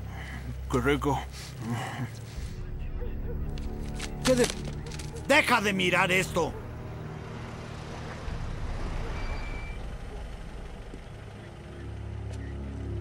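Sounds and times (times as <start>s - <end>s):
car engine and road rumble: 0.0s - 13.0s
low sustained music tones: 0.0s - 13.0s.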